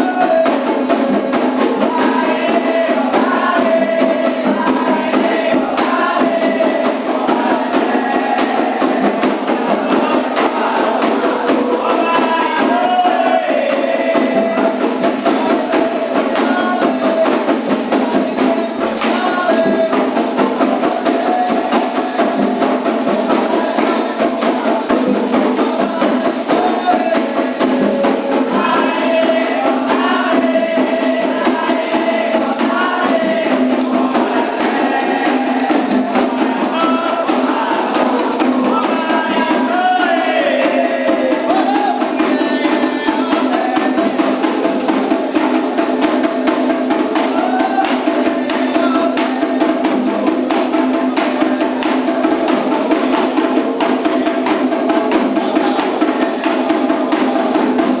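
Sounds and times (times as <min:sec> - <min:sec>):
group singing a chant: 0:00.0 - 0:58.0
hand drums: 0:00.0 - 0:58.0.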